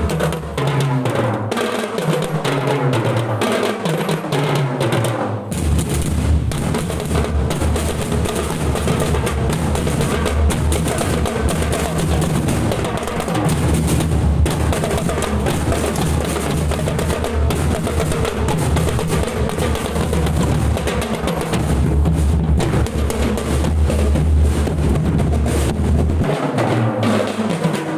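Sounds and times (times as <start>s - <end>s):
marching bass drums: 0.0s - 27.9s
snare drums: 0.0s - 27.9s.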